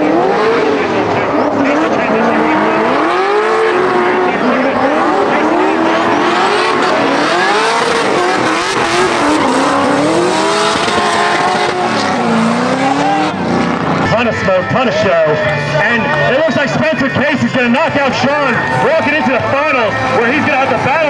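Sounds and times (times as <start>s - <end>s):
car engines revving high: 0.0s - 21.0s.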